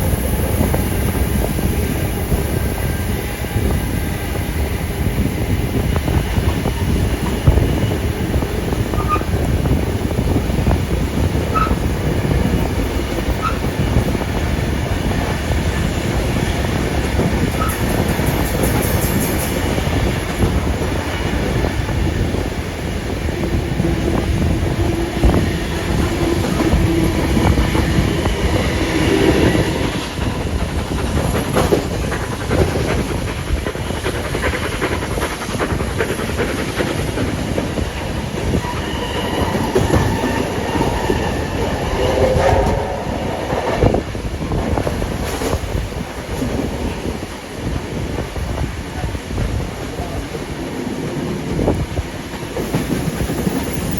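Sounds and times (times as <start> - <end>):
train wheels clattering over rail joints: 4.6 - 48.6, 51.5 - 53.9.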